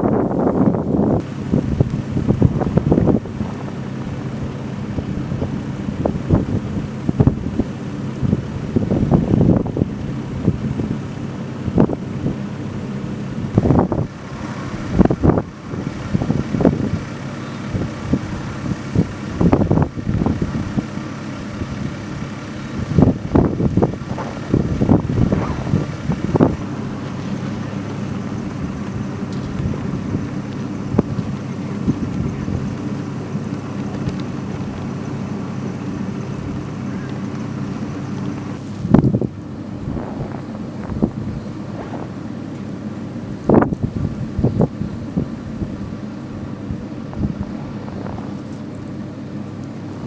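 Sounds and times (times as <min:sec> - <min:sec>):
wind buffeting microphone: 0:00.0 - 0:37.0, 0:37.6 - 0:49.1
constant low hum: 0:00.0 - 0:50.0.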